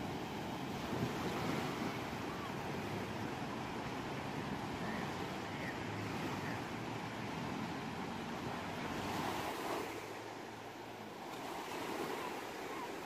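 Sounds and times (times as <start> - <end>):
ocean waves breaking on shore: 0.0 - 13.0.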